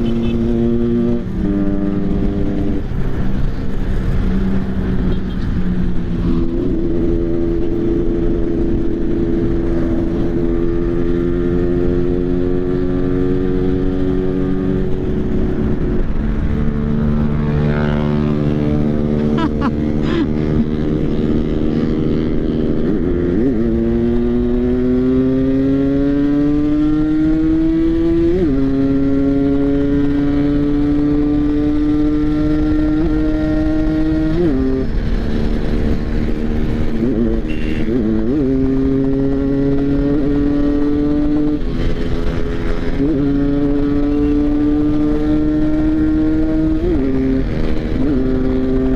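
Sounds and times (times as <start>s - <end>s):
motorcycle engine running hard: 0.0s - 48.9s.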